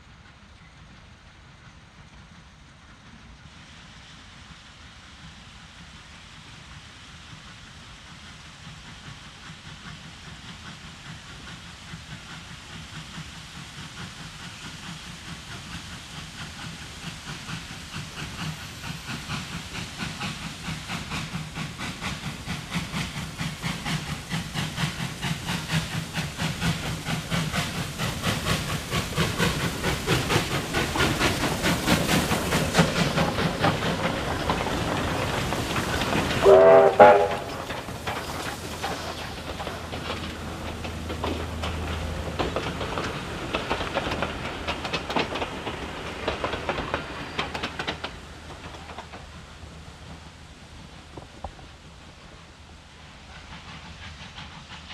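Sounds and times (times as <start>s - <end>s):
steam locomotive exhaust beats: 0.0s - 54.9s
steam locomotives hissing: 0.0s - 54.9s.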